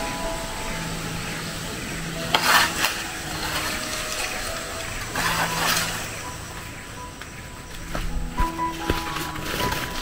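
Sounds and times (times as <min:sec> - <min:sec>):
faint background music: 0:00.0 - 0:10.0
leaves and branches rustling: 0:00.0 - 0:10.0.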